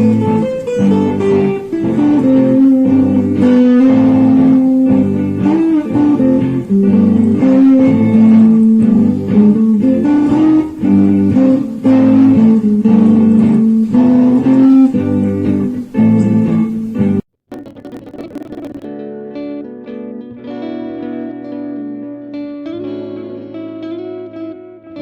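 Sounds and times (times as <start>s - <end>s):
layered looped guitar: 0.0s - 25.0s.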